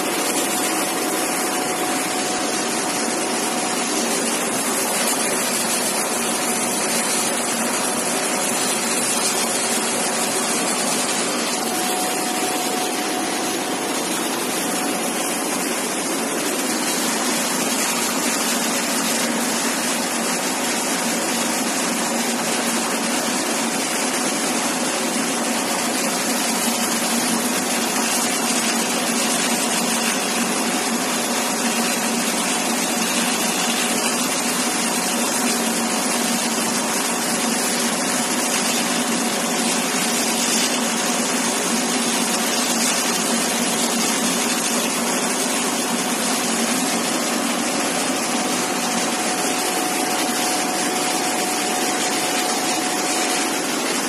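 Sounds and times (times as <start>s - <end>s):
laser cutter fan rushing: 0.0s - 54.0s.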